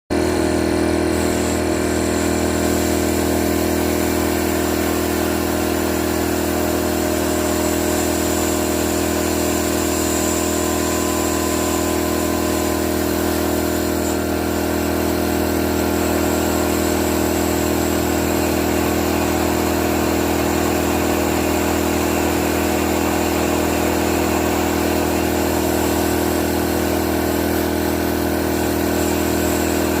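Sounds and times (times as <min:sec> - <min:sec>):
engine idling: 0:00.4 - 0:30.0.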